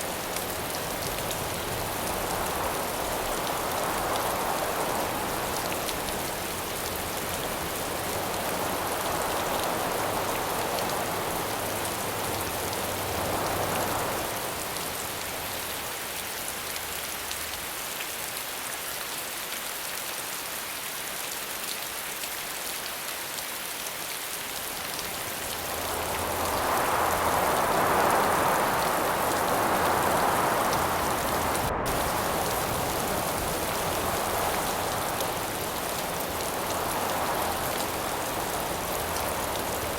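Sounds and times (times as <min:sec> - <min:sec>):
wind gusts: 0:00.0 - 0:17.5, 0:24.3 - 0:39.9
steady rain hiss: 0:00.0 - 0:39.9.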